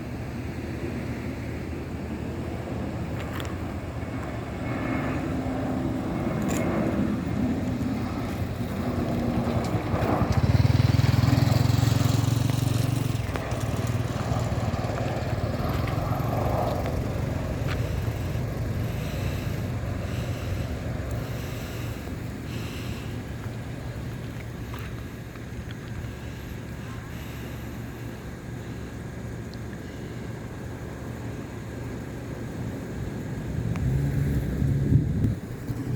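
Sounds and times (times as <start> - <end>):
jet engines rumbling on landing: 0.0 - 35.9.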